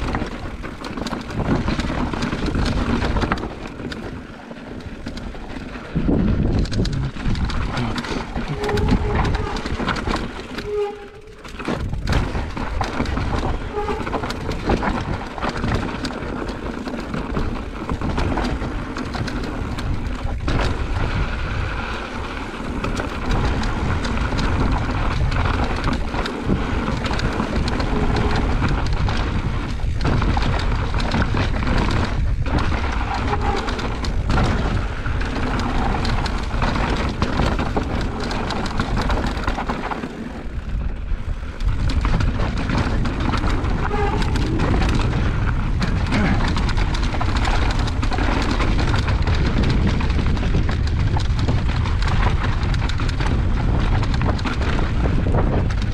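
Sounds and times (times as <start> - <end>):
bike knocking and rattling on rocks: 0.0 - 55.9
tyres rumbling over dirt: 0.0 - 55.9
wind buffeting microphone: 0.0 - 55.9.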